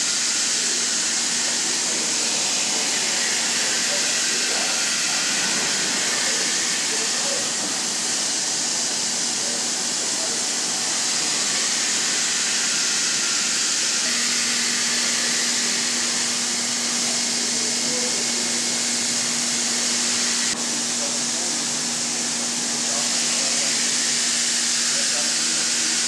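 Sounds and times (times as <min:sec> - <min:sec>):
machinery hiss: 0:00.0 - 0:26.0.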